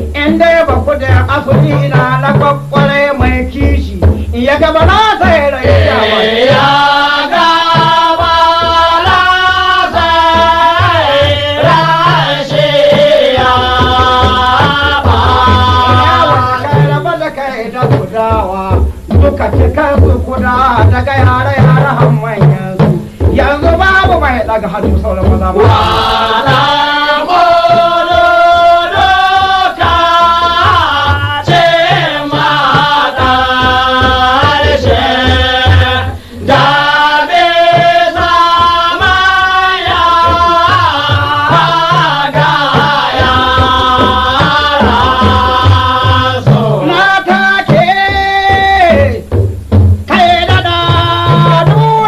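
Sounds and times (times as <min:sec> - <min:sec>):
person singing: 0:00.0 - 0:23.8, 0:24.7 - 0:49.2, 0:50.1 - 0:52.0
drums: 0:00.0 - 0:52.0.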